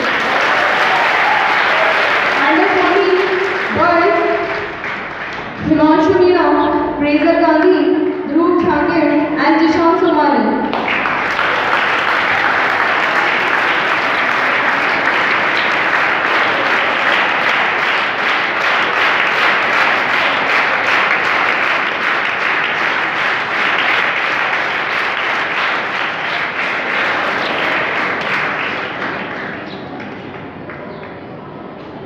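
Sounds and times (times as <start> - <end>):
audience applauding: 0.0 - 5.7, 10.6 - 31.2.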